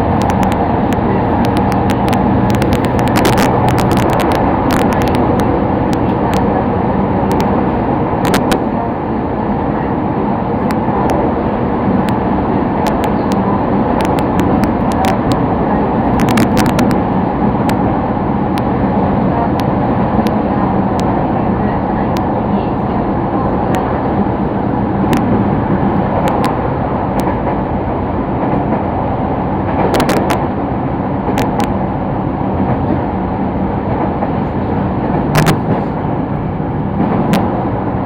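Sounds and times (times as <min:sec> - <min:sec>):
train rumbling inside carriage: 0:00.0 - 0:38.0.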